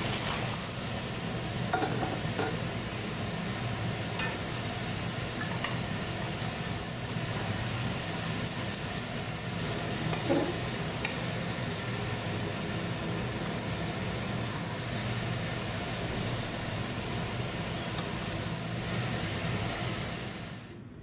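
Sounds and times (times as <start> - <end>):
egg sizzling in hot oil: 0.0 - 0.8, 3.9 - 20.6.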